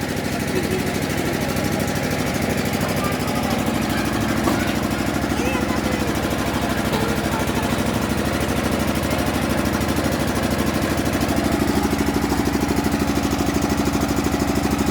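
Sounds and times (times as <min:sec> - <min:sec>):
construction machine engine throbbing: 0:00.0 - 0:14.9.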